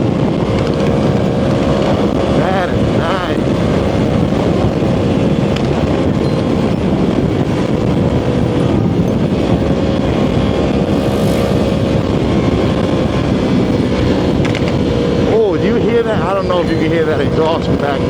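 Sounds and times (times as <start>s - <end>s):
motorcycle engine cruising: 0.0s - 18.0s
road noise: 0.0s - 18.0s
wind noise: 0.0s - 18.0s.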